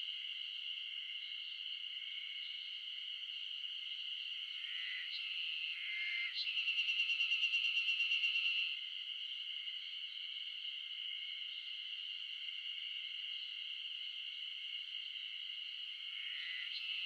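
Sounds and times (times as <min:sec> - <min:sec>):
nearby cicada pulsing song: 0:00.0 - 0:17.0.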